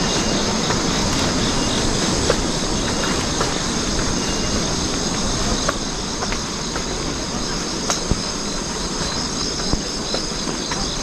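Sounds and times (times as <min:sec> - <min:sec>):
insects chirring: 0:00.0 - 0:11.0
steady rushing noise: 0:00.0 - 0:11.0.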